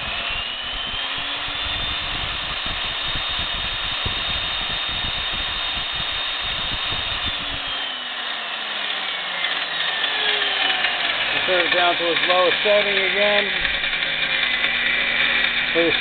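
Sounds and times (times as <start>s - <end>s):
drill press motor whine: 0.0s - 16.0s.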